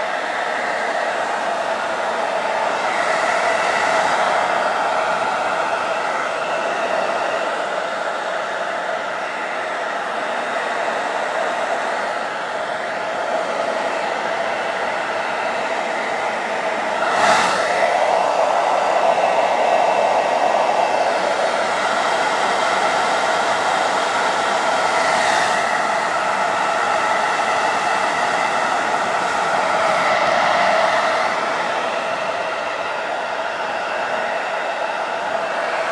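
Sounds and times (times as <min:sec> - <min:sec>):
hair dryer blowing: 0:00.0 - 0:35.9.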